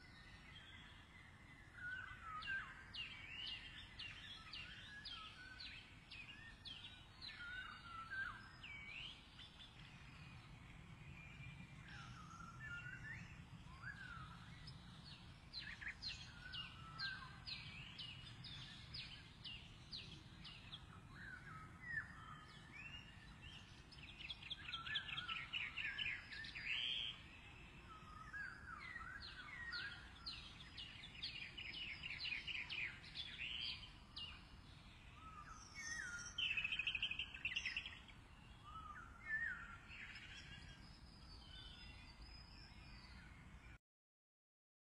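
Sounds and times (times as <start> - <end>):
small birds chirping: 0.0 - 43.8.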